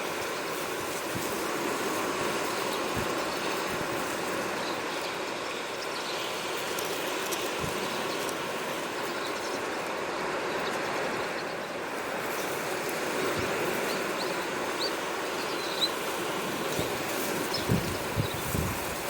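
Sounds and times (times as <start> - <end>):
sea waves washing: 0.0 - 19.0.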